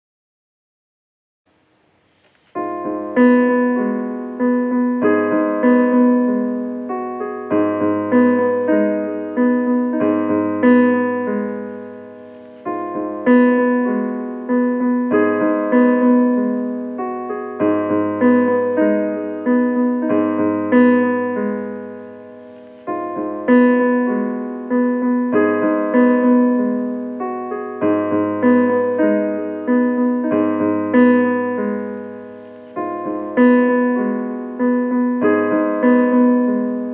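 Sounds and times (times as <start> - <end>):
solo piano chords: 2.3 - 36.9.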